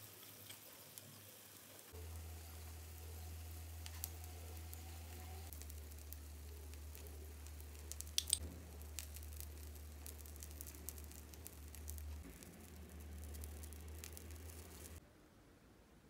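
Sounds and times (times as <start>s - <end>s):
steady low hum: 1.9s - 15.0s.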